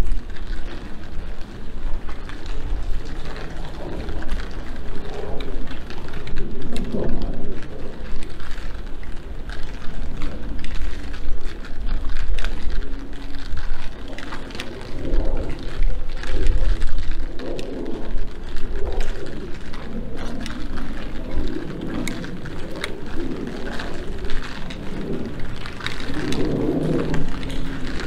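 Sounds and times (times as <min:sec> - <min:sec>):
faint ticks: 0:00.0 - 0:28.0
low street rumble: 0:00.0 - 0:28.0.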